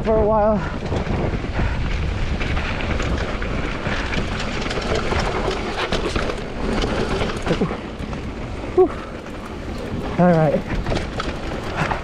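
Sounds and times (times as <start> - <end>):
bike chain and frame clatter: 0.0 - 12.0
bike tyres rolling on rock: 0.0 - 12.0.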